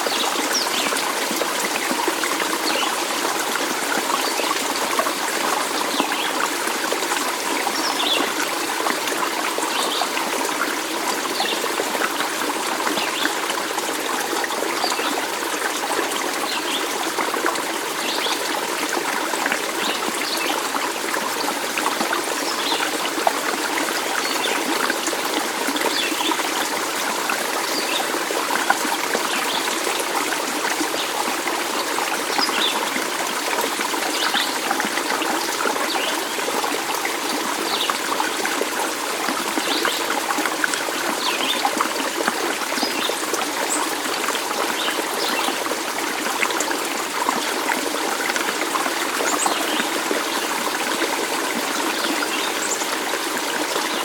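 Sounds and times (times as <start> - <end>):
small stream trickling: 0.0 - 54.0.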